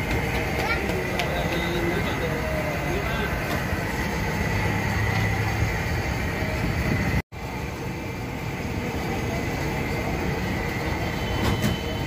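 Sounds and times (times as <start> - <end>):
outdoor food stall background noise: 0.0 - 12.0.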